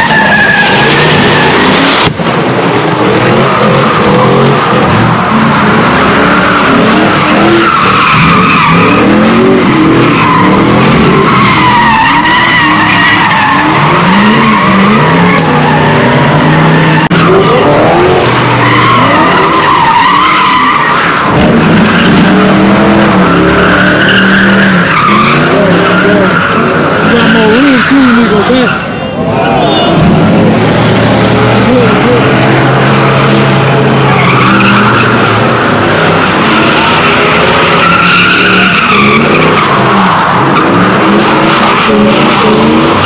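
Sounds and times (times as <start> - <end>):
tyres squealing on pavement: 0.0 - 2.1, 2.7 - 43.0
car engines revving hard: 0.0 - 43.0.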